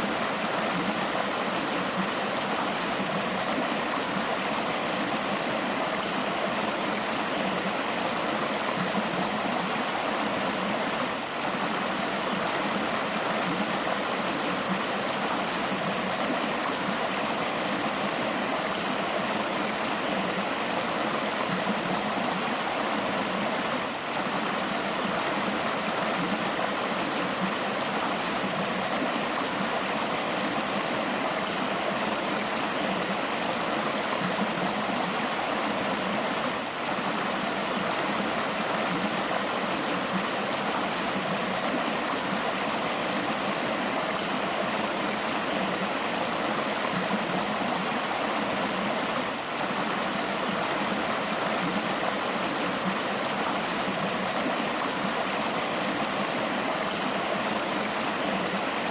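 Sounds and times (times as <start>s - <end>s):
river flowing over rocks: 0.0s - 58.9s.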